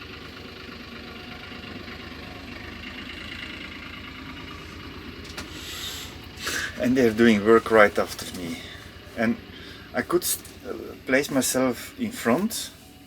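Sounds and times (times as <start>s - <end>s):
machinery engine idling: 0.0s - 13.0s.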